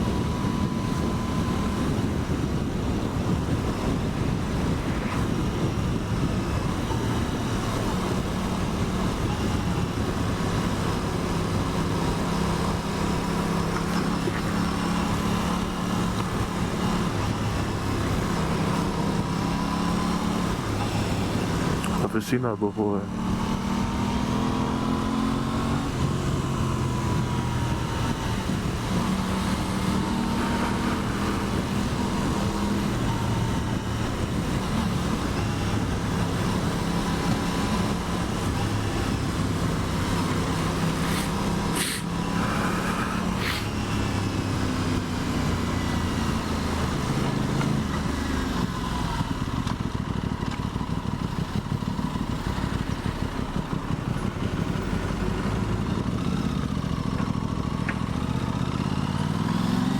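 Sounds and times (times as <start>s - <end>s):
wind noise: 0.0s - 22.0s, 23.2s - 50.4s
motorcycle engine running: 0.0s - 22.2s, 22.9s - 59.9s.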